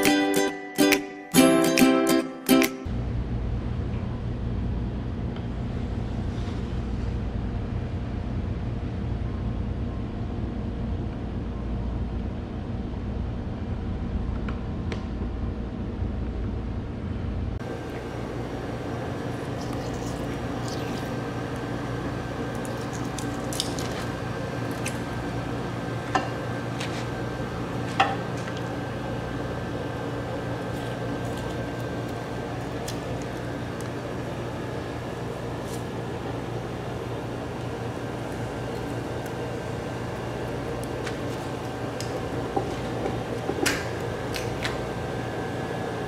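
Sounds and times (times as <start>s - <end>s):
kitchen machine hum: 0.0s - 46.0s.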